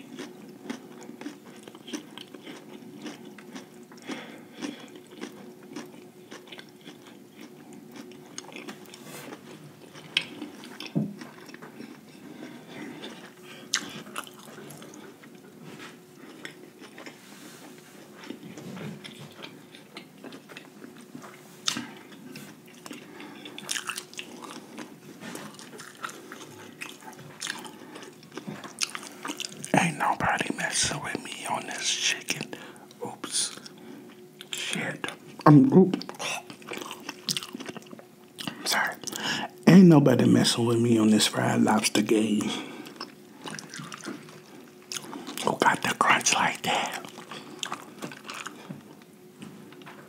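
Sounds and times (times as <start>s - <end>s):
chewing crunchy fried food: 0.0s - 39.6s, 40.4s - 50.0s
faint steady hum: 0.0s - 50.0s.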